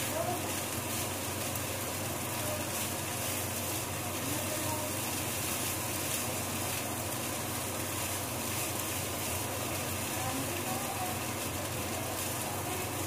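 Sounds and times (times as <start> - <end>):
rice sizzling in a frying pan: 0.0 - 13.0
spatula stirring in a pan: 0.0 - 13.0.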